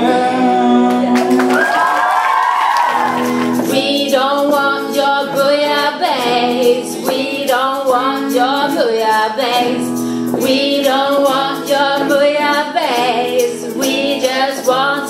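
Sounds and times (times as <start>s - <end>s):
electric guitar: 0.0s - 15.0s
women singing: 0.0s - 15.0s.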